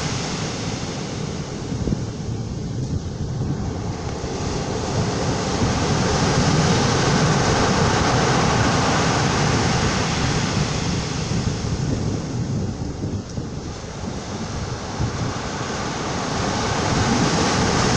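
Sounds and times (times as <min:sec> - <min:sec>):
ocean surf on pebble beach: 0:00.0 - 0:17.9
wind on microphone: 0:00.0 - 0:17.9.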